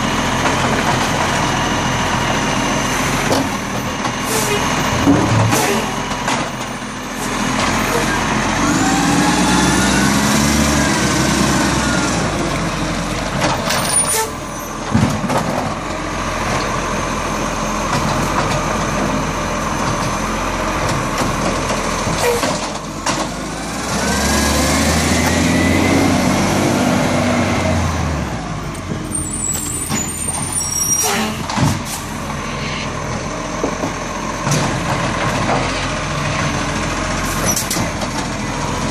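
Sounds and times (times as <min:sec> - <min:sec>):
garbage truck engine revving: 0:00.0 - 0:38.9.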